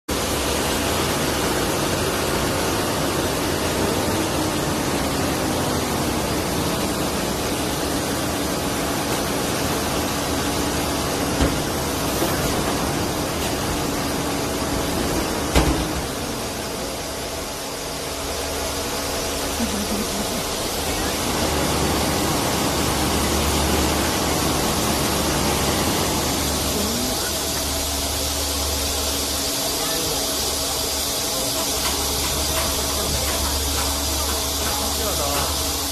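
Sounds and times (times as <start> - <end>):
truck engine and hydraulics humming: 0.1 - 35.9.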